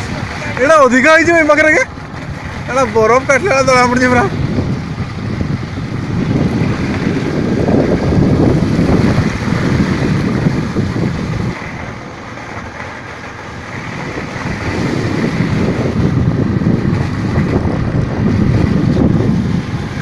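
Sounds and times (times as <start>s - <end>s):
heavy rain pouring: 0.0s - 20.0s
wind buffeting microphone: 0.0s - 20.0s.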